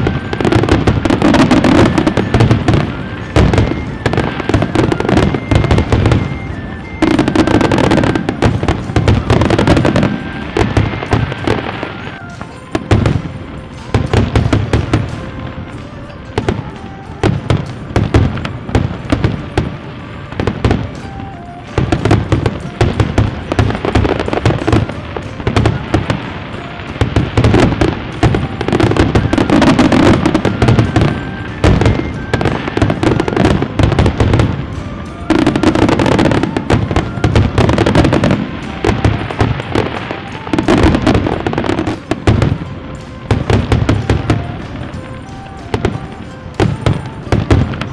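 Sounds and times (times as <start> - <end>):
fireworks cracking and banging: 0.0 - 47.9.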